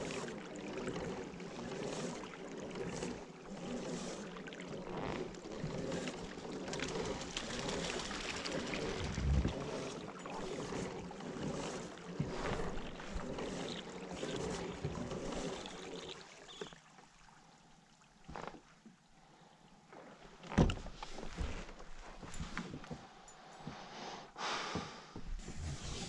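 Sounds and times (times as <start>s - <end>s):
water swishing along kayak hull: 0.0s - 26.0s.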